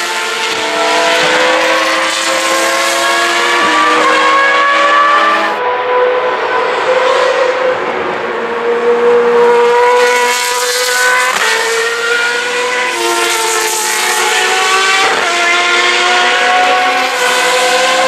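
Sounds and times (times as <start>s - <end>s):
racing car engines at high revs: 0.0s - 18.0s.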